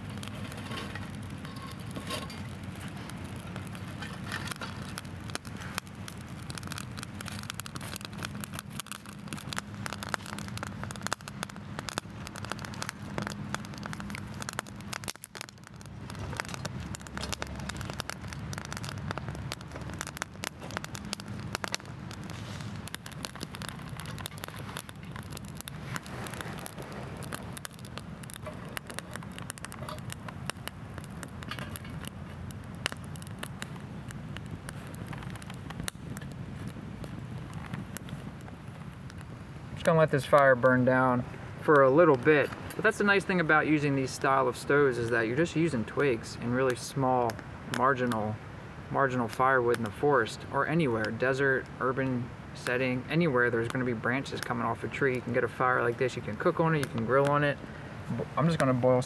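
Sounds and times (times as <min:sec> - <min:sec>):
twig fire crackling: 0:00.0 - 0:59.0.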